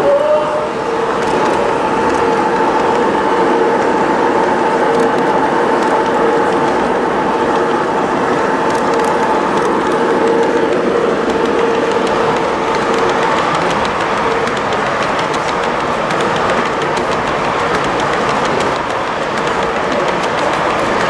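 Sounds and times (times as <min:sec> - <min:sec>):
busy hall background noise: 0:00.0 - 0:21.0
model train motor whine: 0:00.0 - 0:21.0
wheels rumbling on track: 0:00.0 - 0:21.0.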